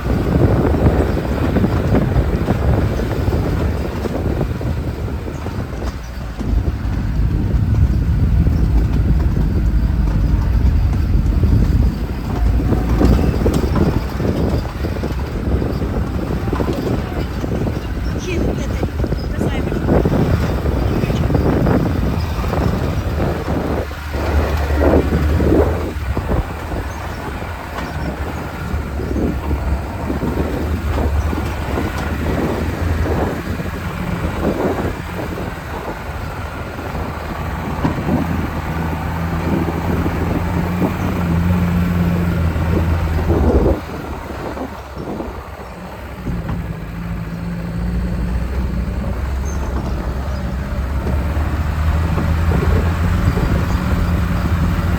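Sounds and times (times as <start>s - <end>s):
knocks and rattles: 0.0s - 54.9s
off-road vehicle engine and tyres rumbling: 0.0s - 54.9s.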